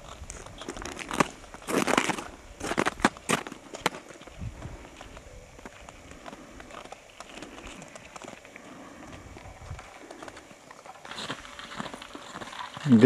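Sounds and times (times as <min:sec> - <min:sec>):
footsteps crunching on snowy ice: 0:00.0 - 0:13.0.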